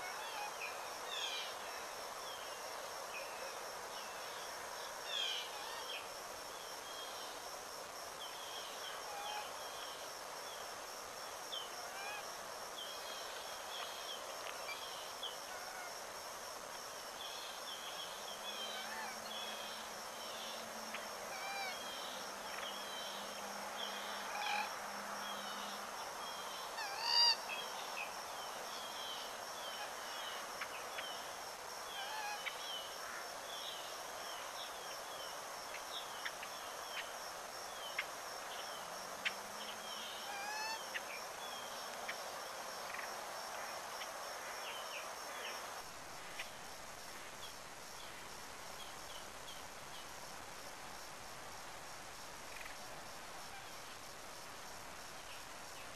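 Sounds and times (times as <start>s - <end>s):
high insect trill: 0.0s - 55.9s.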